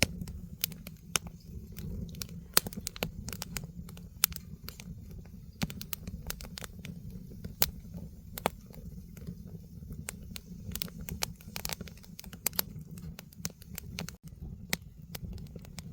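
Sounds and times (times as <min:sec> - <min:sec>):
fire low rumble: 0:00.0 - 0:15.9
firewood crackling and popping: 0:00.0 - 0:15.9.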